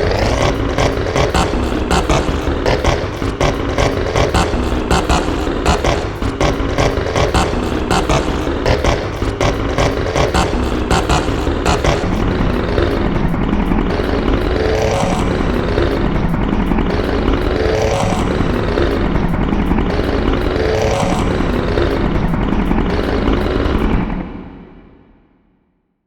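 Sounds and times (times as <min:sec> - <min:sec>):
reversed engine noise: 0:00.0 - 0:24.3.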